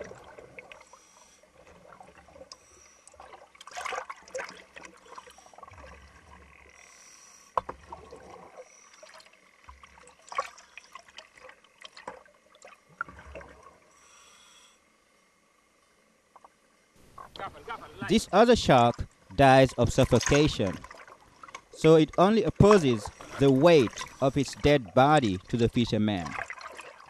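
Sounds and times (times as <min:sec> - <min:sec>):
water splashing and bubbling: 0:00.0 - 0:14.0, 0:18.1 - 0:27.0.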